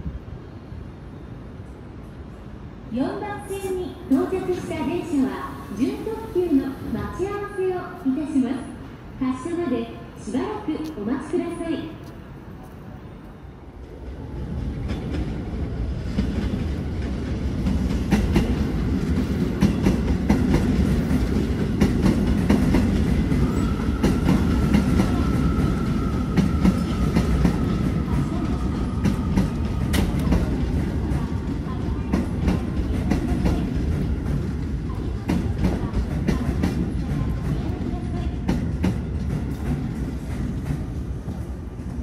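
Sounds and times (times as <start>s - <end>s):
electric train rumbling on rails: 0.0s - 42.0s.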